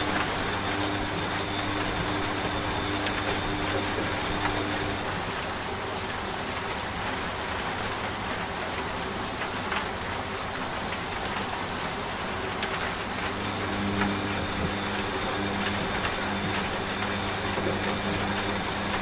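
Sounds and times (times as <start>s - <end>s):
steady rain: 0.0s - 19.0s
washing machine hum: 0.0s - 19.0s.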